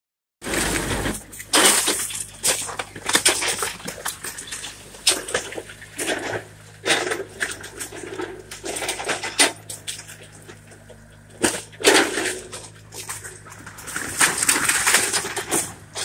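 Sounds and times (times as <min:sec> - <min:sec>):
wooden boards splintering and crashing: 0:00.4 - 0:10.8, 0:11.4 - 0:16.0
excavator engine humming: 0:00.4 - 0:16.0.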